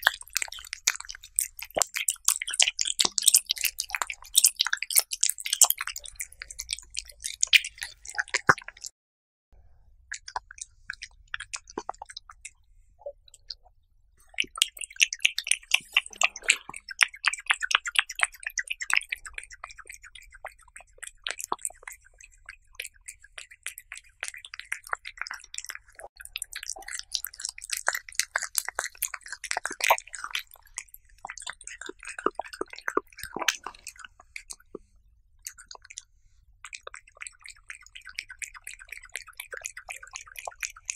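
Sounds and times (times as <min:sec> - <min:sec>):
cat chewing meat: 0:00.0 - 0:08.9, 0:14.2 - 0:40.9.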